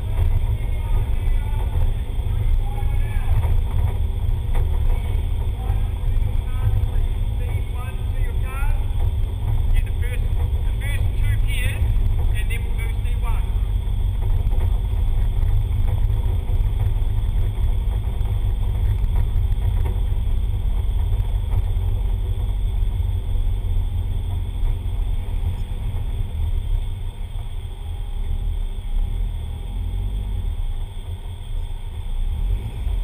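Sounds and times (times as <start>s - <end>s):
car engine deep rumble: 0.0s - 33.0s.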